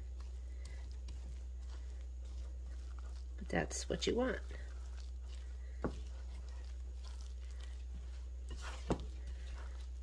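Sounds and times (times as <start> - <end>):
dough scraping and squishing: 0.0 - 10.0.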